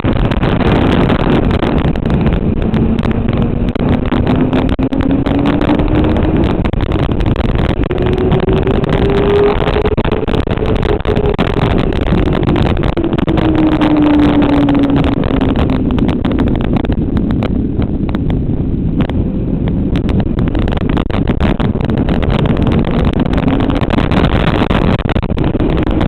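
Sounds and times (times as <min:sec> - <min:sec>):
motorcycle engine revving: 0:00.0 - 0:26.0
wind rush over microphone: 0:00.0 - 0:26.0.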